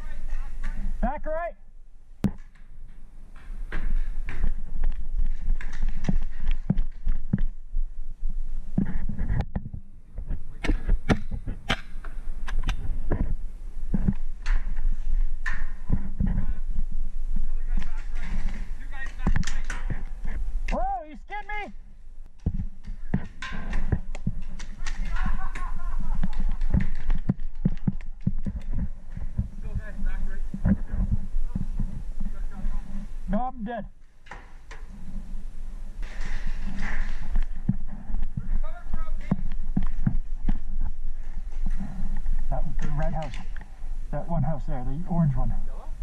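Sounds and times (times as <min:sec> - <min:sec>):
steady low rumble: 0:00.0 - 0:20.8, 0:21.7 - 0:46.0.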